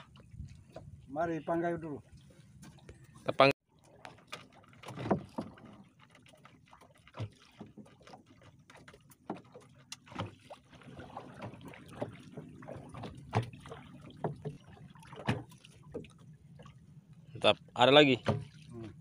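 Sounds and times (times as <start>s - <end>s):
faint water lapping: 0.0s - 19.0s.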